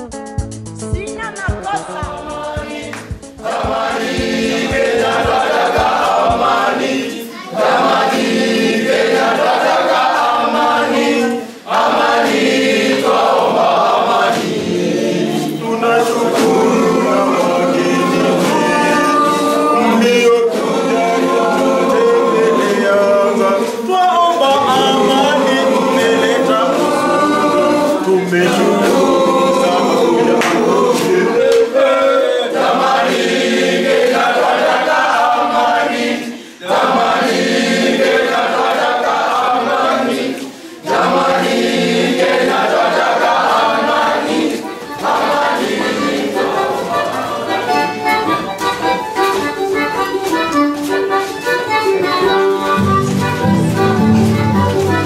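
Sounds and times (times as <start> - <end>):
boys singing a cappella: 1.0 - 48.0.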